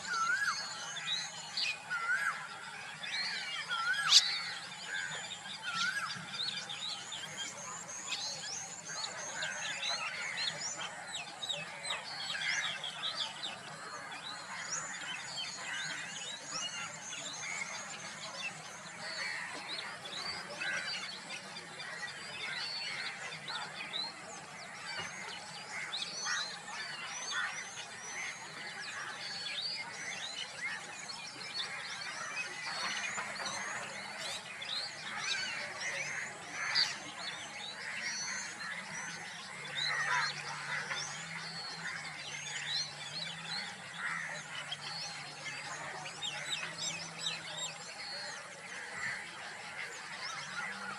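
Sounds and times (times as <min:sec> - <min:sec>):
chorus of birds calling: 0:00.0 - 0:50.9.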